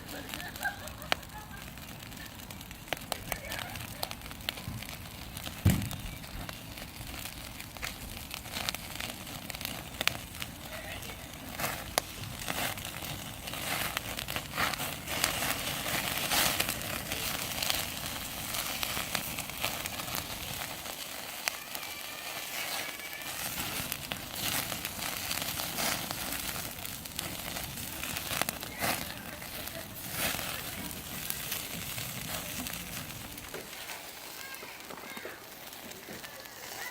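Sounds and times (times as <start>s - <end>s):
meat sizzling: 0.0s - 36.9s
wood fire crackling and popping: 0.0s - 36.9s.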